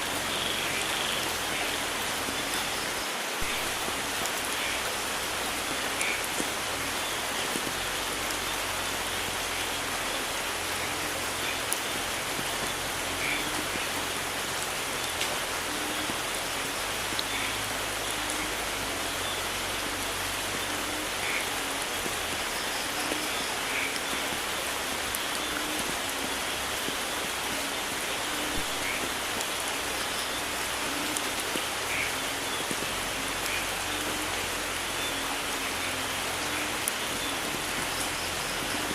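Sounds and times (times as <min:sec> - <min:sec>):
dense rain hissing: 0:00.0 - 0:38.9
louder raindrops: 0:00.0 - 0:38.9.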